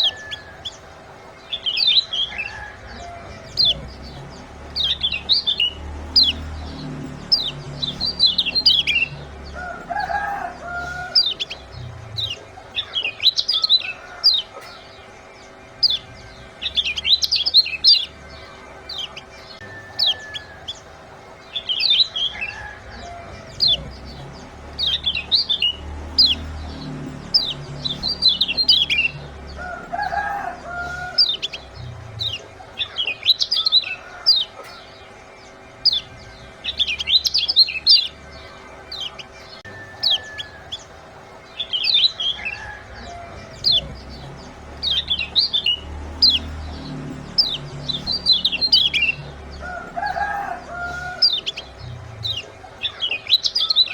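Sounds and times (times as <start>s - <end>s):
lower bird calls: 0.0s - 53.9s
songbirds chirping: 0.0s - 53.9s.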